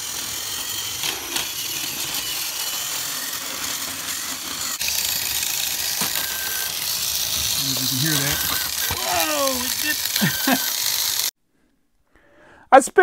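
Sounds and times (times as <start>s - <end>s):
toy train motor whirring: 0.0s - 11.3s
toy train rattling and clicks: 0.0s - 11.3s.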